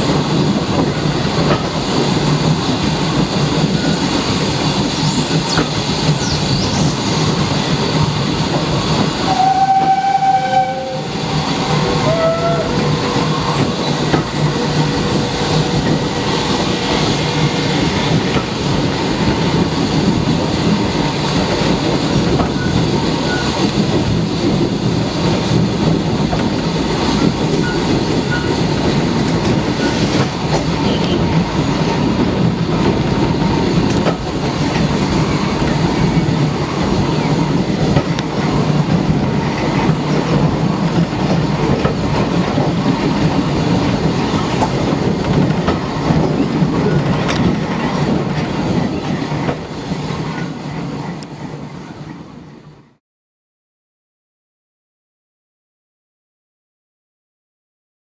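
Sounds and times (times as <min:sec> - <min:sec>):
rail clicks: 0:00.0 - 0:52.5
train wheels rumbling on track: 0:00.0 - 0:53.0.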